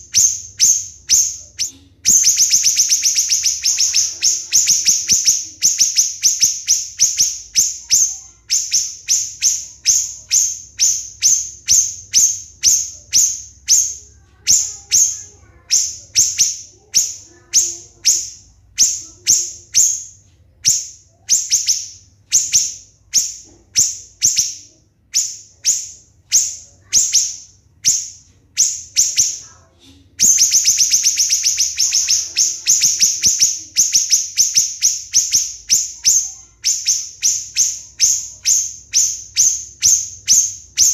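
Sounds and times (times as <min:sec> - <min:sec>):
bird singing sharp high notes: 0:00.0 - 0:29.5, 0:30.2 - 0:40.9.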